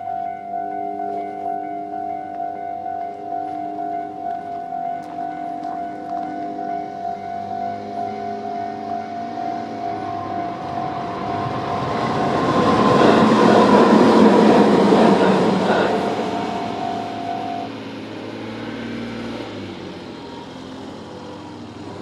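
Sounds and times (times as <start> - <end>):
electric train rumbling: 0.0 - 22.0
level crossing warning bell: 0.0 - 22.0.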